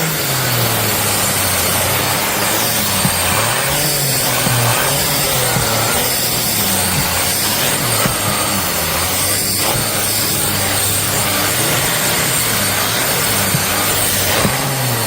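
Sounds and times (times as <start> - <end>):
upright vacuum running: 0.0 - 15.0.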